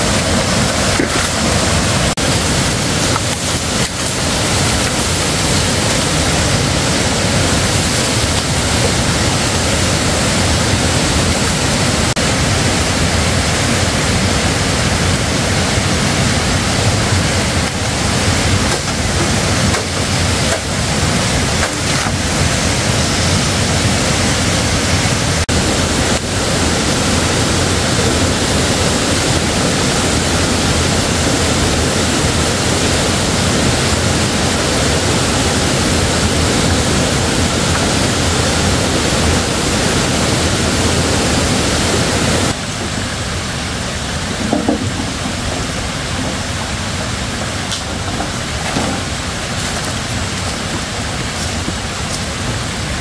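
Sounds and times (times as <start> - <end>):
loud rushing noise: 0.0 - 53.0.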